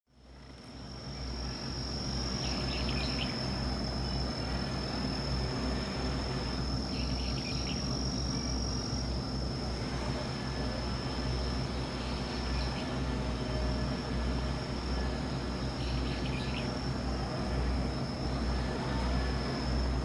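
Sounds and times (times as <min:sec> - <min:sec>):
insects trilling: 0:00.3 - 0:20.0
low outdoor rumble: 0:00.3 - 0:20.0
insect chirping bursts: 0:00.9 - 0:09.7, 0:10.5 - 0:20.0.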